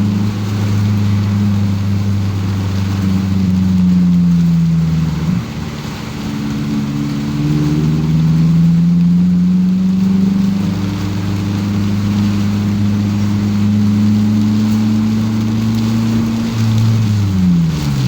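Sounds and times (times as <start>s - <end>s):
car engine accelerating: 0.0s - 18.0s
rain: 0.0s - 18.0s
tyres hissing on wet road: 0.0s - 18.0s.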